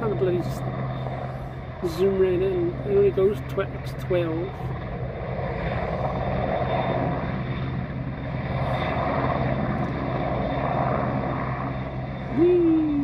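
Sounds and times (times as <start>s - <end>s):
helicopter hovering: 0.0s - 13.0s.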